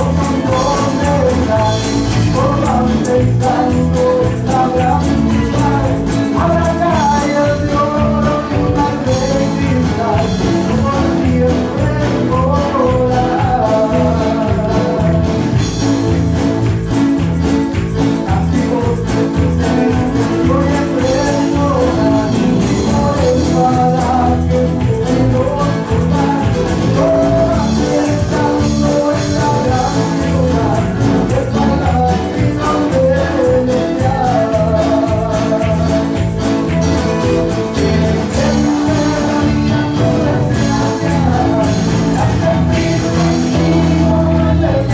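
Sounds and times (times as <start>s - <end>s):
live band playing gospel song: 0.0s - 44.9s
person singing: 0.0s - 44.9s.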